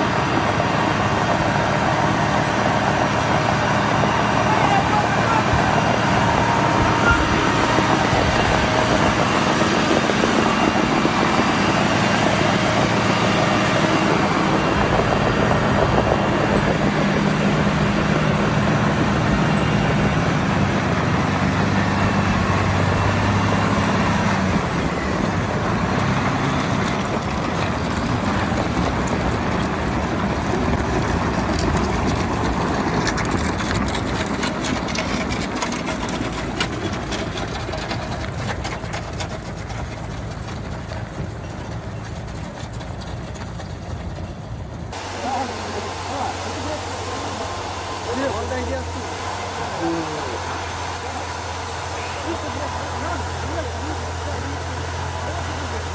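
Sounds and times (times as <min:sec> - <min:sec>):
low engine hum: 0:00.0 - 0:55.9.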